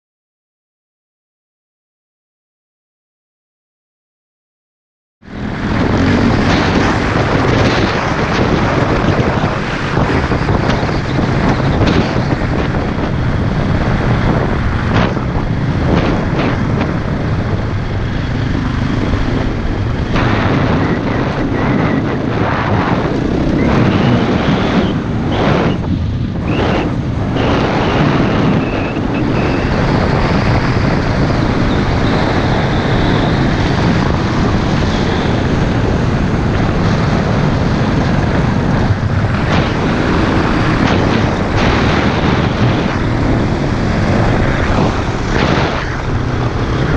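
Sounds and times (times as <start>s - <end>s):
motorcycle engine running: 5.2s - 46.9s
wind rushing over microphone: 5.2s - 46.9s.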